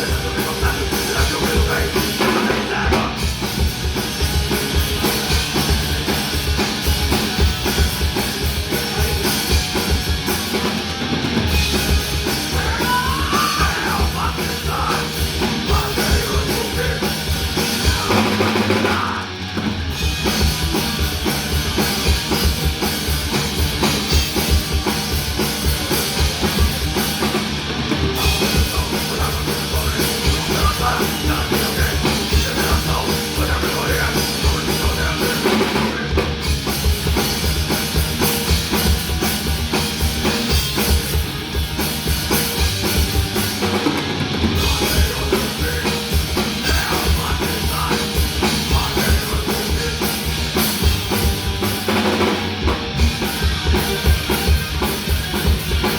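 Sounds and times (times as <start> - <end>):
drum kit: 0.0 - 55.9
live punk band playing: 0.0 - 55.9.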